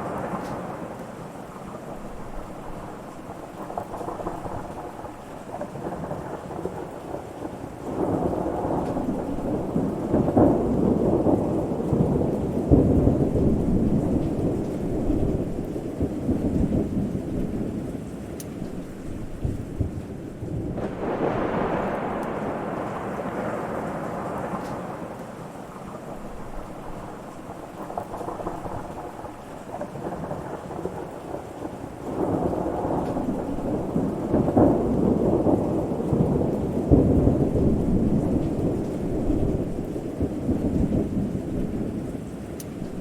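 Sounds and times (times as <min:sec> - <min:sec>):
rolling thunder: 0:00.0 - 0:18.0, 0:18.6 - 0:43.0
steady rain: 0:00.0 - 0:43.0.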